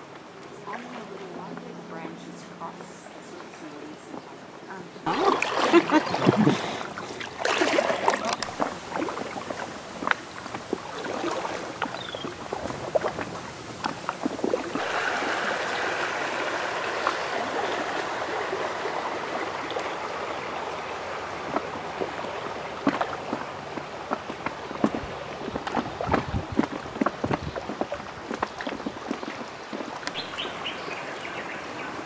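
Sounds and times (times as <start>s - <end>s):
flowing river water: 0.0s - 32.0s
paddle splashing water: 2.8s - 32.0s.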